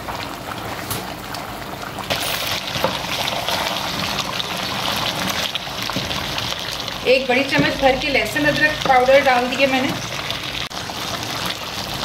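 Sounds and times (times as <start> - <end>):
pot bubbling and sizzling: 0.0 - 12.0.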